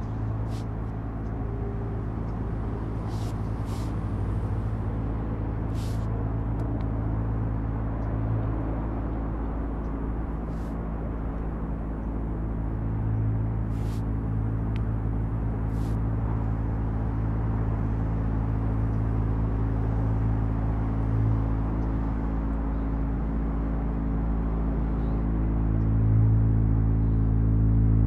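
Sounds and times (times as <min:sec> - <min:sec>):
ambient drone music: 0:00.0 - 0:28.0.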